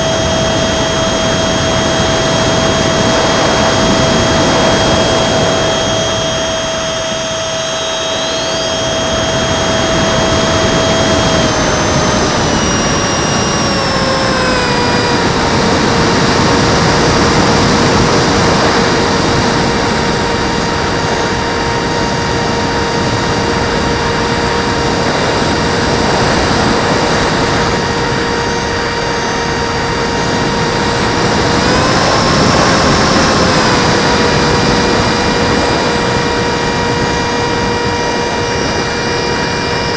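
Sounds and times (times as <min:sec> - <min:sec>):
electric fan whining: 0:00.0 - 0:39.9.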